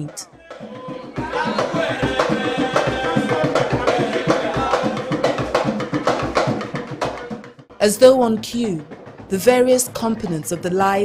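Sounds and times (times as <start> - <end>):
hand drums playing a busy rhythm: 0.0 - 11.0.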